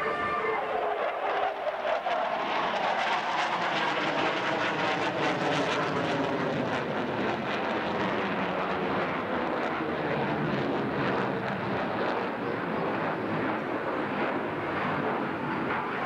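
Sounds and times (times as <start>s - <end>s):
fighter jet engines roaring: 0.0s - 16.0s.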